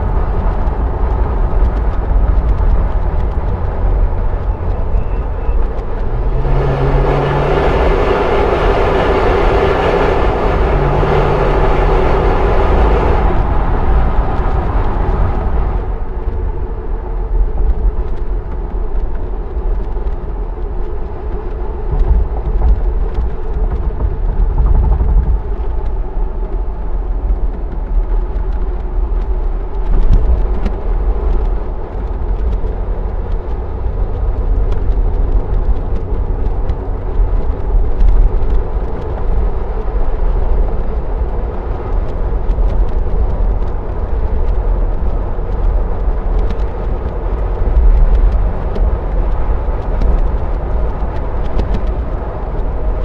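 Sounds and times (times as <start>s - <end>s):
car engine drone: 0.0s - 53.0s
road and wind noise rumble: 0.0s - 53.0s.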